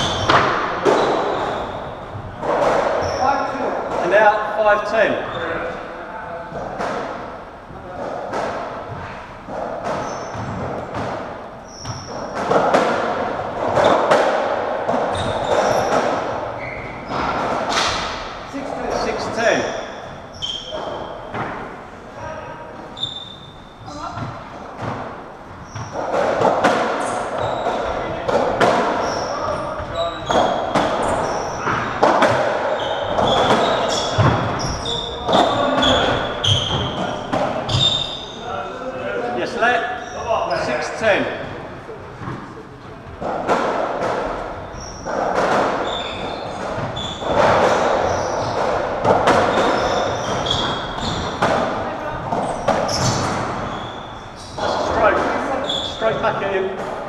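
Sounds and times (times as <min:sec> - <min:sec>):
trainers squeaking on wooden floor: 0:00.0 - 0:05.8, 0:07.8 - 0:57.0.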